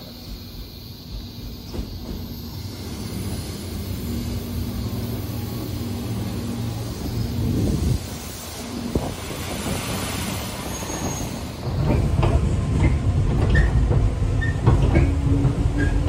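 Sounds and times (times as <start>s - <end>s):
electric train arriving: 0.0s - 16.0s
wheels rumbling on rails: 0.0s - 16.0s.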